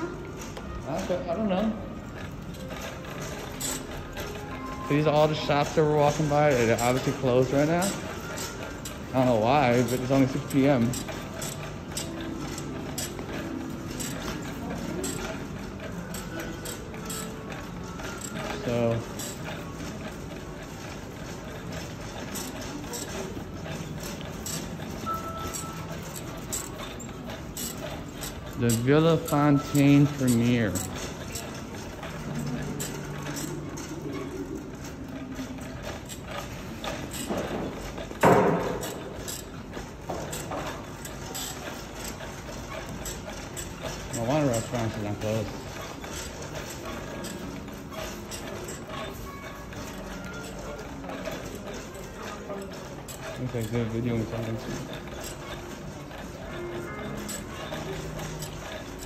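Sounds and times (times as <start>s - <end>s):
hum of a large hall: 0.0s - 59.0s
luggage rattling on tiled floor: 0.0s - 59.0s.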